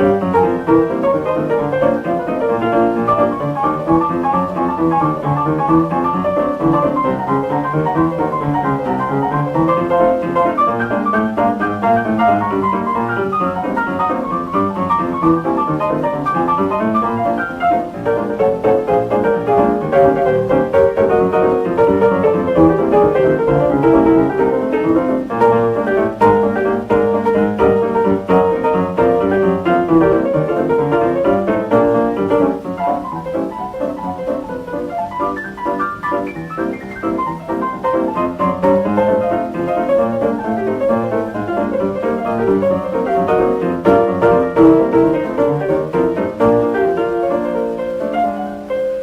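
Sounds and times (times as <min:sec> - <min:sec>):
fast stride piano: 0:00.0 - 0:49.0.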